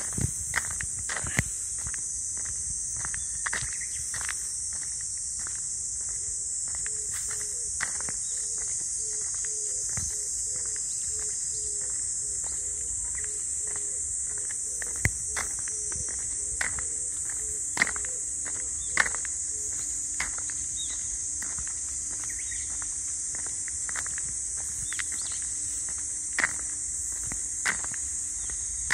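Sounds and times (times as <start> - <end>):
footsteps: 0.0 - 28.9
insects singing: 0.0 - 28.9.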